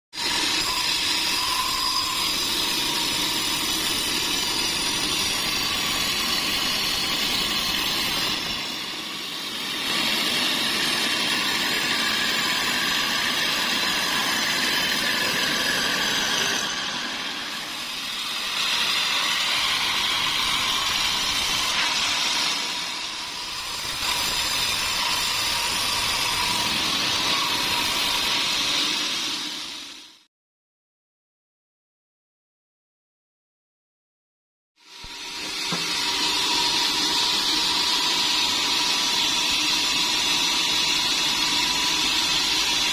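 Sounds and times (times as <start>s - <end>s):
band saw cutting log: 0.2s - 29.9s, 34.9s - 42.9s.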